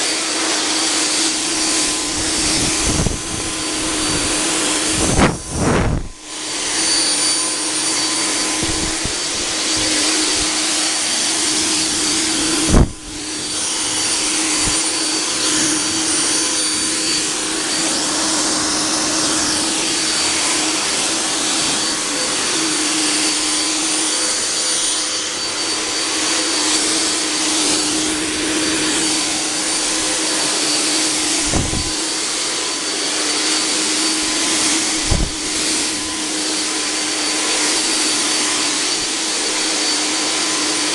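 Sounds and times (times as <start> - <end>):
fog generator blower whooshing: 0.0 - 40.9.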